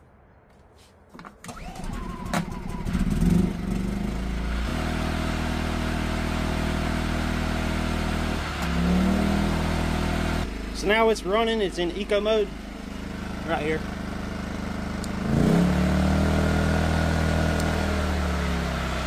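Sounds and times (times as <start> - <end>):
generator engine starting and running: 1.4 - 19.0.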